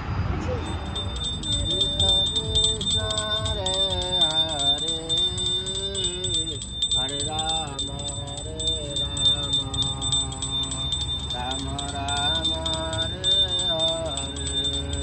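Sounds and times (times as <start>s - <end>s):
devotional melody: 0.6s - 15.0s
hand bell ringing rapidly: 0.6s - 15.0s.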